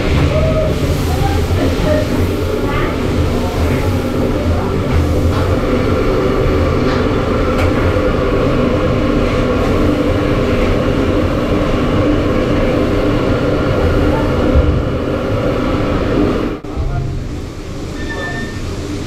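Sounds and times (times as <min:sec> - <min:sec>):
ship machinery drone: 0:00.0 - 0:19.0.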